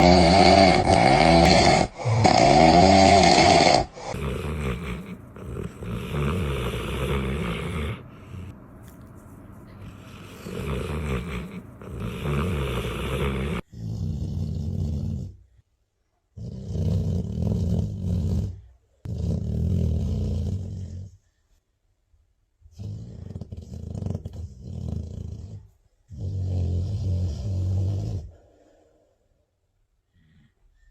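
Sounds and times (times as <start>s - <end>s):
dog snoring: 0.0s - 8.6s, 9.7s - 15.4s, 16.4s - 21.2s, 22.7s - 28.5s.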